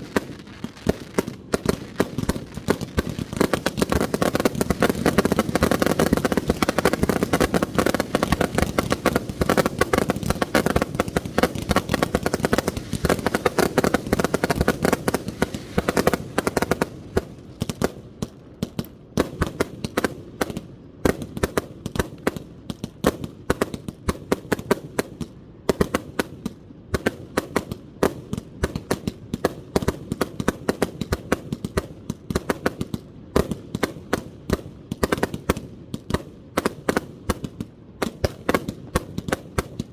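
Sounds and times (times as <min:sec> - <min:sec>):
fireworks barrage of sharp bangs: 0:00.0 - 0:39.9.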